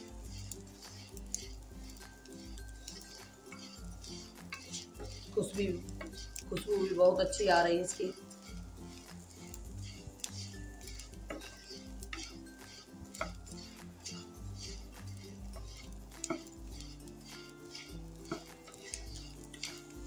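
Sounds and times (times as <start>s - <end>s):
spatula clicking against pan: 0.0s - 6.7s, 7.3s - 20.0s
soft background music: 0.0s - 20.0s
wooden spatula scraping a pan: 0.0s - 20.0s.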